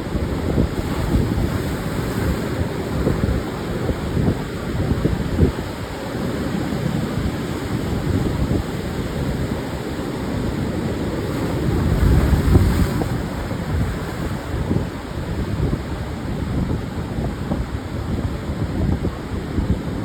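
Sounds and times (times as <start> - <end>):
surf breaking on sandy beach: 0.0 - 19.7
wind buffeting microphone: 0.0 - 20.0.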